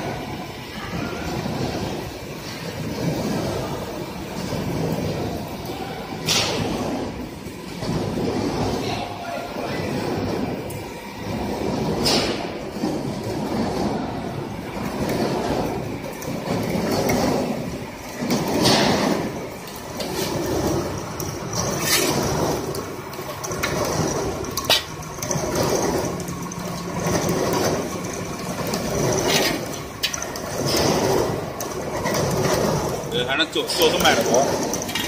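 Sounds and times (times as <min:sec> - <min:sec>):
rushing machine noise: 0:00.0 - 0:35.0.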